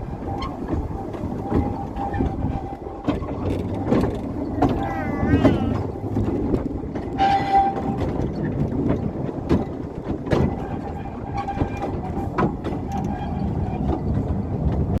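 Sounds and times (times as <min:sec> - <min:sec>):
train wagons rumbling: 0:00.0 - 0:15.0
wheels and couplings knocking: 0:00.0 - 0:15.0.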